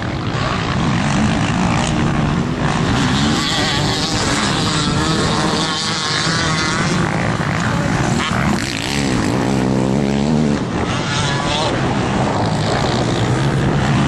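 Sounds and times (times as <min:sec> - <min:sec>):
dirt bike engines racing: 0:00.0 - 0:14.0.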